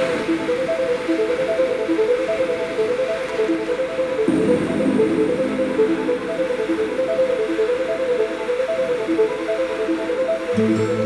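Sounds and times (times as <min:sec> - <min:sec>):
background music with repeated notes: 0:00.0 - 0:11.0.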